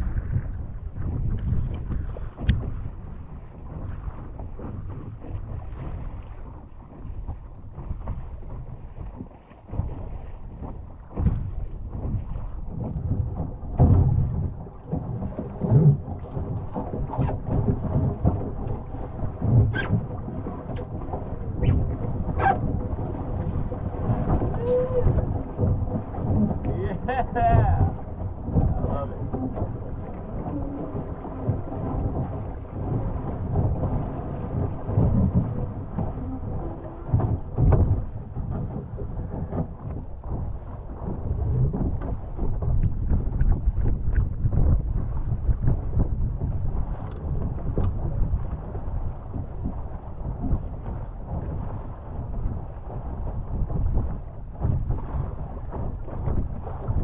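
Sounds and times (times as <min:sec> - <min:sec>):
water splashing against hull: 0:00.0 - 0:57.0
wind buffeting microphone: 0:00.0 - 0:57.0.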